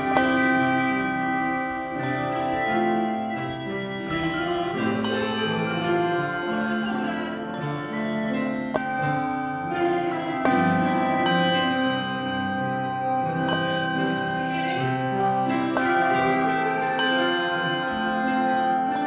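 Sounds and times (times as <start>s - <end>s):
handbell choir playing: 0.0s - 19.0s.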